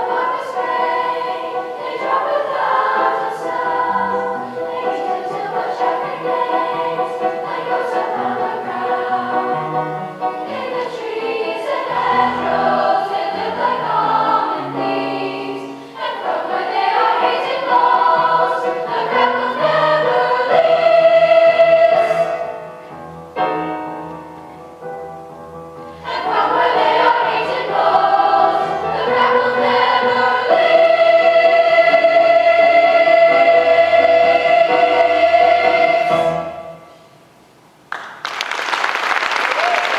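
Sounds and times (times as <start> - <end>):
choir singing: 0.0 - 23.0, 26.0 - 37.1.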